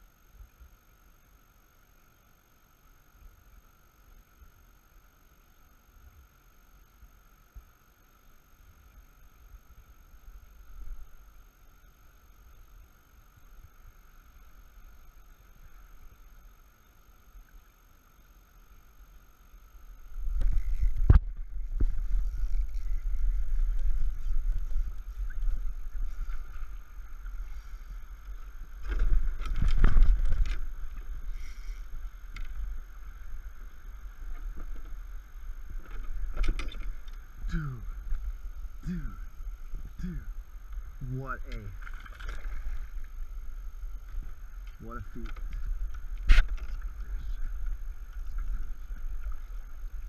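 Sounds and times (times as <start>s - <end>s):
steady high hum: 0.0s - 50.0s.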